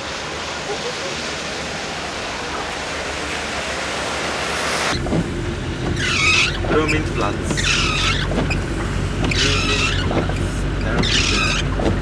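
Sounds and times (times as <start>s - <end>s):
rain on a wet street: 0.0s - 12.0s.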